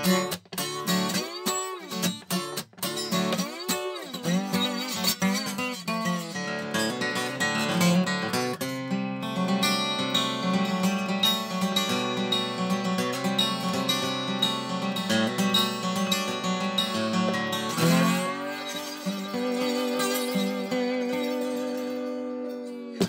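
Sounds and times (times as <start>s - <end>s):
acoustic guitar picked and strummed: 0.0s - 23.0s.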